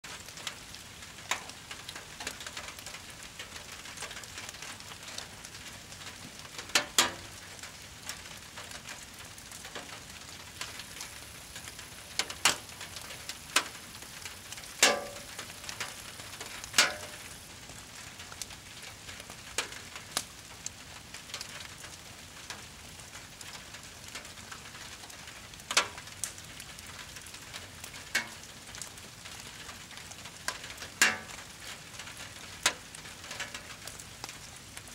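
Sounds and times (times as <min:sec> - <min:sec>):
fire crackling: 0:00.0 - 0:34.9.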